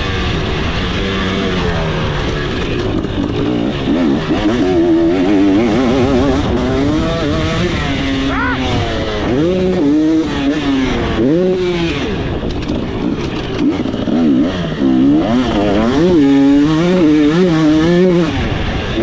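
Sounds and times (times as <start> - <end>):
two-stroke motorcycle engine revving: 0.0 - 19.0.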